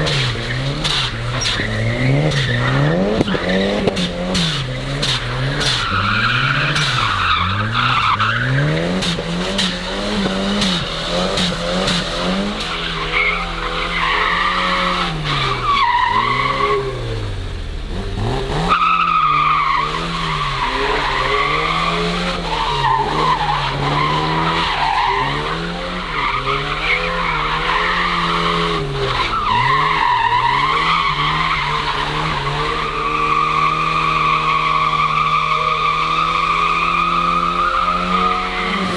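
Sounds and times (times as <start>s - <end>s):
tyres squealing: 0.0s - 17.0s, 18.7s - 38.9s
car engine revving: 0.0s - 38.9s.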